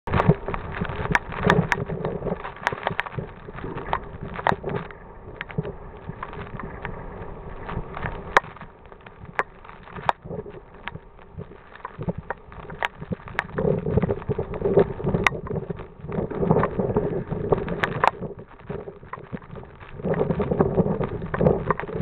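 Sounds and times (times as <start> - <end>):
sharp crackles and knocks: 0.0 - 22.0
wind buffeting microphone: 0.1 - 22.0.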